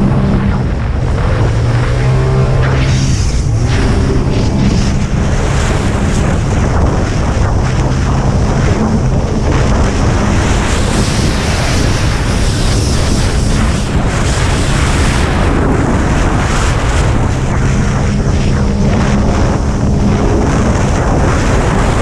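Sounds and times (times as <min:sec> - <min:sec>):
jet ski engine running hard: 0:00.0 - 0:22.0
rushing water: 0:00.0 - 0:22.0
wind buffeting microphone: 0:00.0 - 0:22.0.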